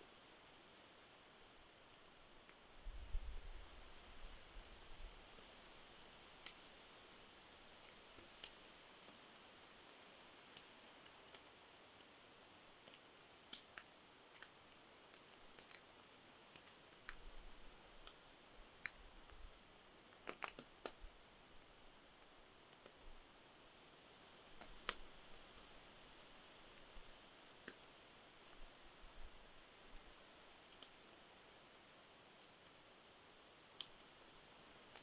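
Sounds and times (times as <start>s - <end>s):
campfire crackling: 0.0s - 35.0s
faint hiss: 0.0s - 35.0s.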